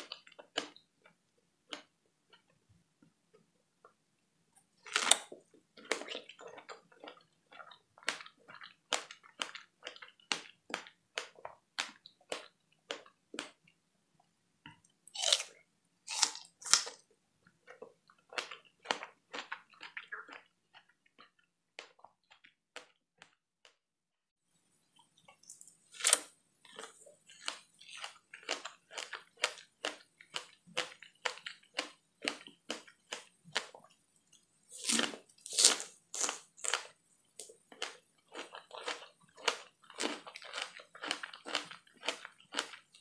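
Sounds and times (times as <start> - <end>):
chewing strawberries: 4.8 - 13.6, 15.1 - 23.4, 25.0 - 43.0.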